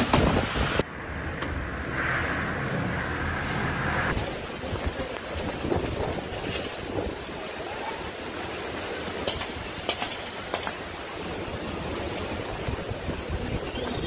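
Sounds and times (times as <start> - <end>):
strong storm wind: 0.0 - 9.9, 10.8 - 14.0.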